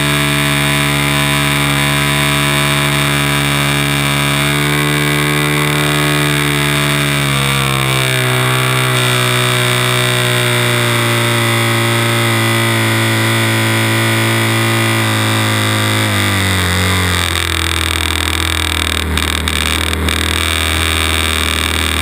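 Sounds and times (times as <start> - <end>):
model airplane motor droning: 0.0 - 22.0.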